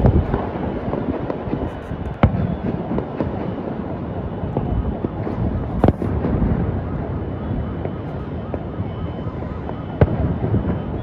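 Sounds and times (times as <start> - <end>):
loud firework bangs: 0.0 - 8.8, 9.5 - 11.0
distant fireworks crackling: 0.0 - 11.0.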